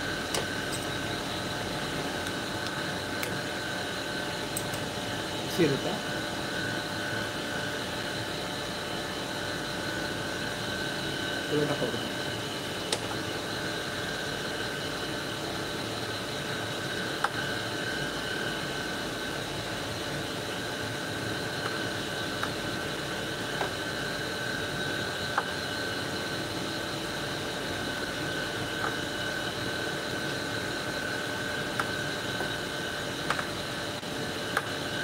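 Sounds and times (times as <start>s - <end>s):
grinder humming and whining: 0.0s - 35.0s.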